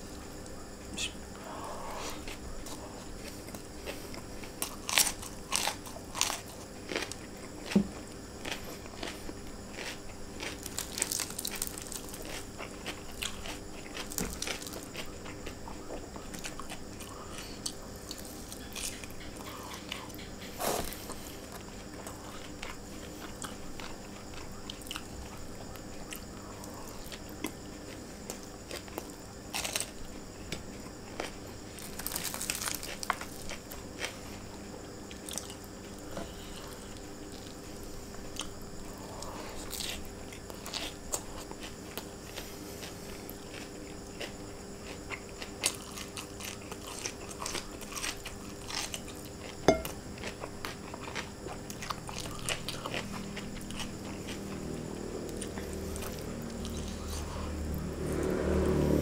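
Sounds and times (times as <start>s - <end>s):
faint steady hum: 0.0s - 59.0s
chewing and wet mouth noises: 1.9s - 30.2s, 30.8s - 58.2s.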